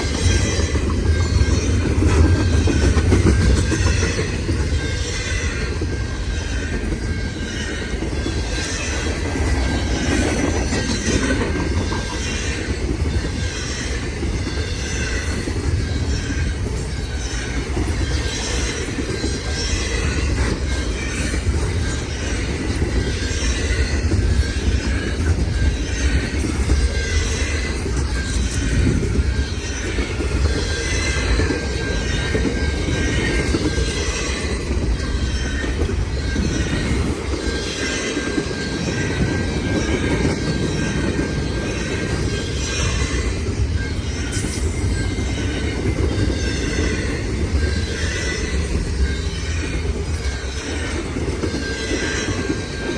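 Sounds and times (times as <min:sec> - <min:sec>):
train wheels rumbling on rails: 0:00.0 - 0:52.9
wheel squeal: 0:00.0 - 0:52.9.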